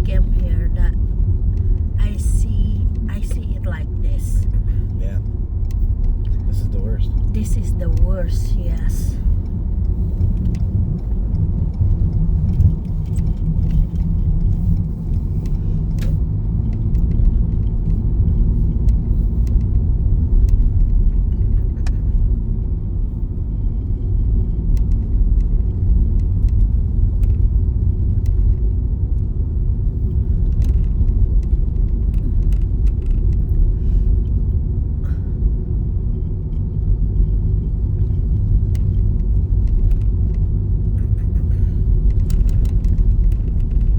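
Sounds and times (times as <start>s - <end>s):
car driving on snowy road: 0.0s - 43.9s.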